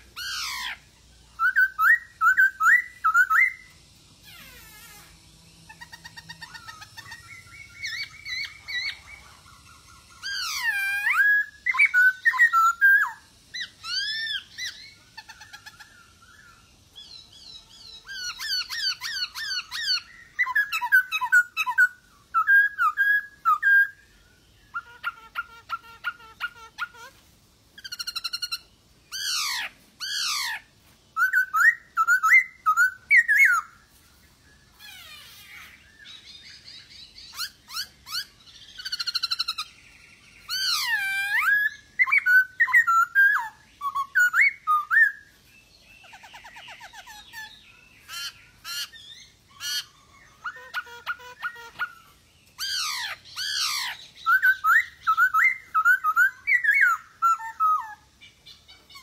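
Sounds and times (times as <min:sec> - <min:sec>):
bird singing whistles and chatter: 0:00.0 - 0:27.2, 0:27.8 - 0:59.0.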